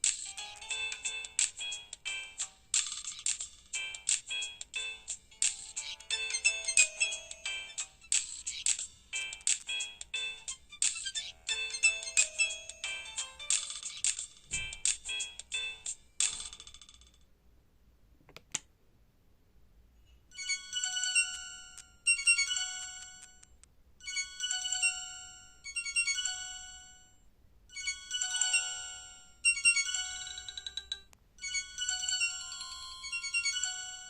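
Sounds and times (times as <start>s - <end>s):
mobile phone ringtone melody: 0.3s - 3.2s, 3.8s - 14.0s, 14.6s - 16.0s, 20.3s - 34.0s.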